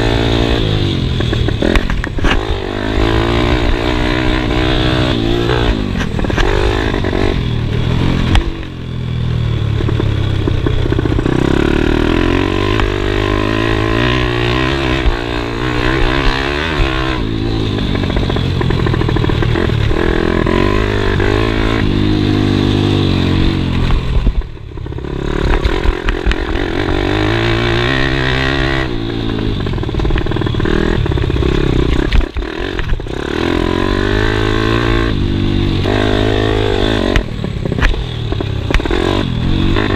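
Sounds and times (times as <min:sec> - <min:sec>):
bike rattling: 0:00.0 - 0:39.9
pit bike engine revving: 0:00.0 - 0:39.9.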